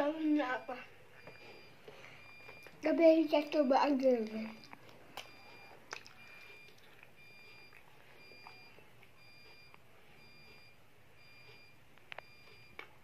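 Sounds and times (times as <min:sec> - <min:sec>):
faint electronic beeping: 0:00.0 - 0:13.0.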